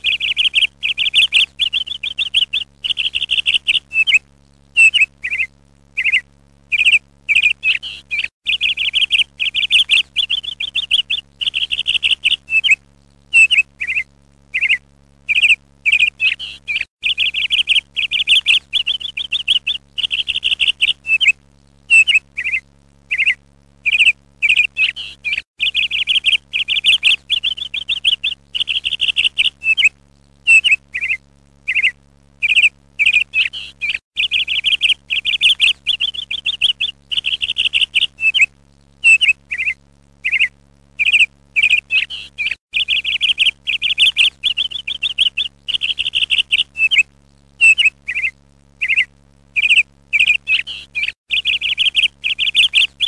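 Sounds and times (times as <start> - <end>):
songbird chirping and trilling: 0.0 - 4.2, 4.8 - 53.0
faint low hum: 0.0 - 53.0.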